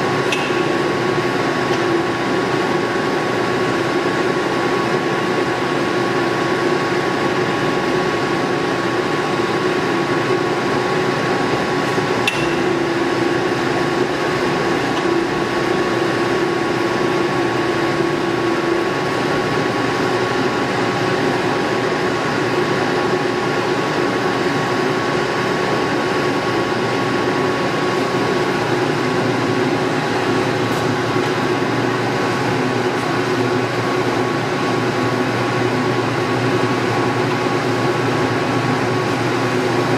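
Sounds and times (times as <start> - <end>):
lathe whirring and humming: 0.0 - 39.9.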